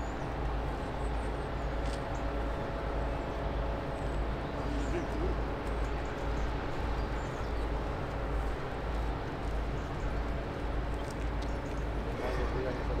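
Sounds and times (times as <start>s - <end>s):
ship engine rumble and hum: 0.0s - 13.0s.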